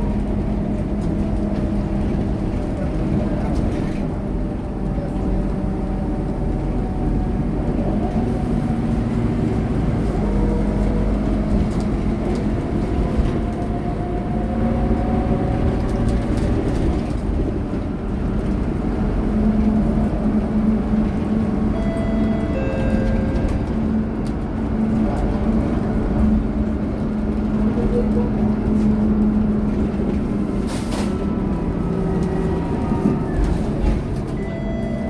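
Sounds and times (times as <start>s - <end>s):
bus engine running: 0.0s - 35.0s.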